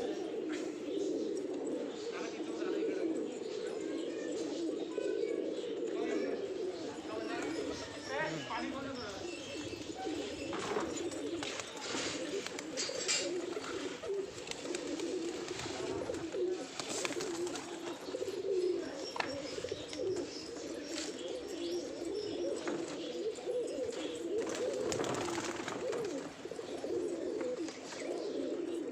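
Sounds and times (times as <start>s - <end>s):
birds calling in chorus: 0.0s - 28.9s.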